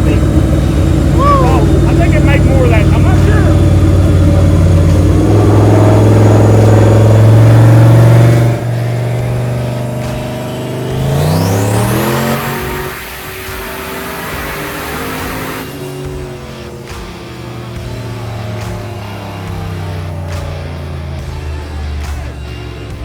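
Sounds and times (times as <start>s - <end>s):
engine revving at high revs: 0.0s - 23.0s.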